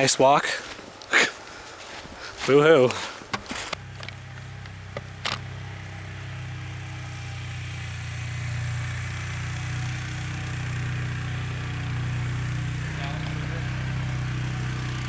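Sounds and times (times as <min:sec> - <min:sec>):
vehicle engine humming: 0:02.5 - 0:15.0.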